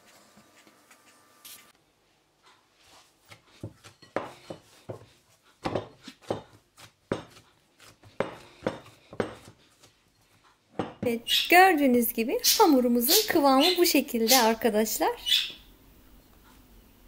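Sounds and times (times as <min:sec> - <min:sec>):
dough kneaded by hand: 0:00.0 - 0:14.4.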